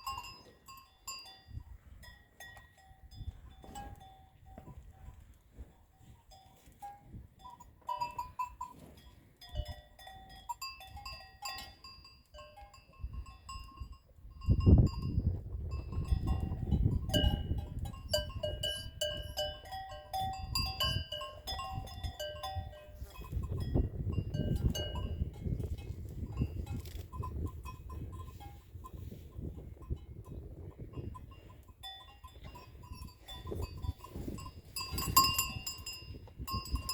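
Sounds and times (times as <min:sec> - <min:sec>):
cattle bells clanking: 0:00.0 - 0:36.9.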